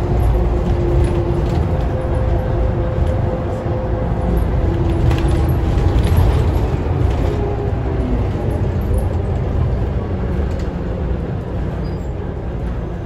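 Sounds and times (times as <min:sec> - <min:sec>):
bus engine and road drone: 0:00.0 - 0:13.0.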